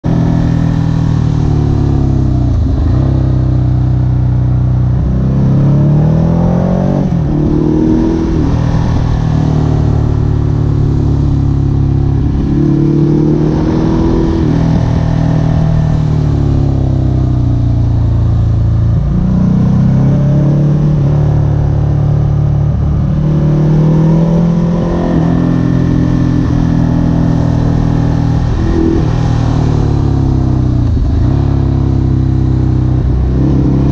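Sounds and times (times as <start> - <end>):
motorcycle engine revving through gears: 0.0 - 33.9.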